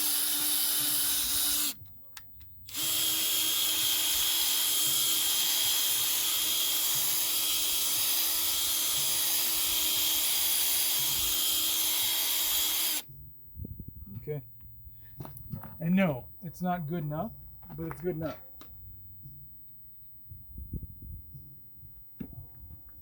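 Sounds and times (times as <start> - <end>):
electric buffer whining: 0.0 - 13.1, 14.6 - 21.6.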